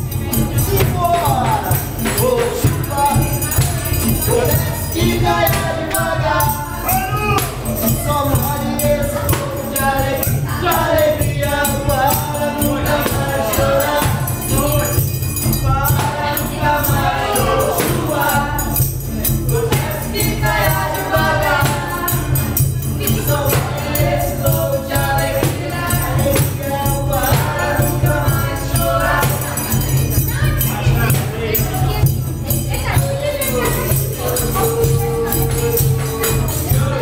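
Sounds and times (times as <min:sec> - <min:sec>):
people singing together: 0:00.0 - 0:37.0
strummed acoustic guitar: 0:00.0 - 0:37.0
tambourine jingling: 0:00.0 - 0:37.0.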